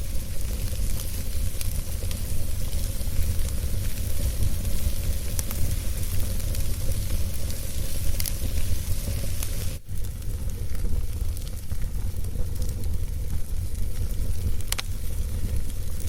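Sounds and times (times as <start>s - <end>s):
fire popping: 0.0s - 16.0s
low rumble and hiss: 0.0s - 16.0s
wood fire crackling: 0.0s - 16.0s.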